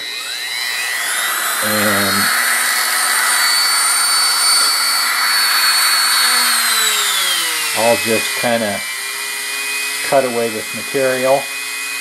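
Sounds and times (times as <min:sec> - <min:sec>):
rotary tool high-pitched whine: 0:00.0 - 0:12.0.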